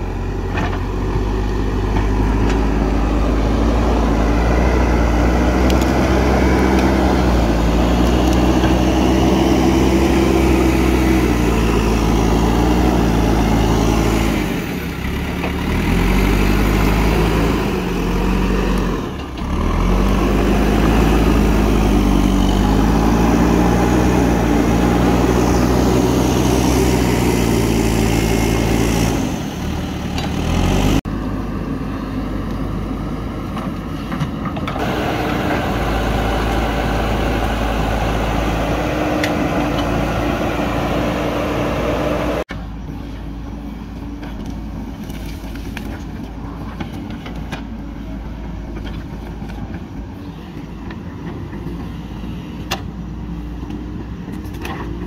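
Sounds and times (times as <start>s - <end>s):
diesel engine running hard: 0.0s - 55.0s.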